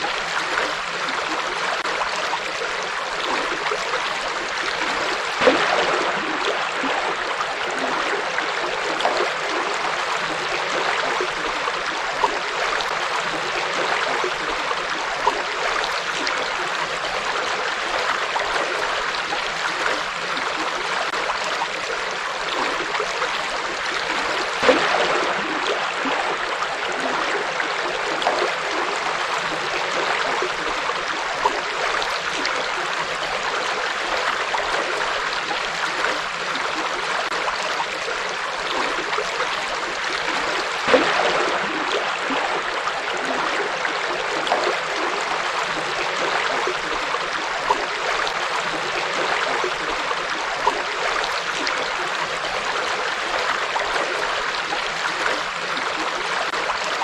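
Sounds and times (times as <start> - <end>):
river water flowing over rocks: 0.0 - 57.0
water splashes: 0.0 - 57.0.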